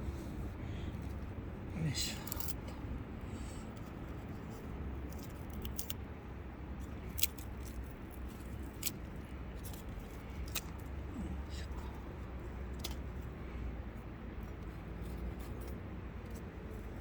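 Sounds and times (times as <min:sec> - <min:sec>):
low steady rumble of fire: 0:00.0 - 0:17.0.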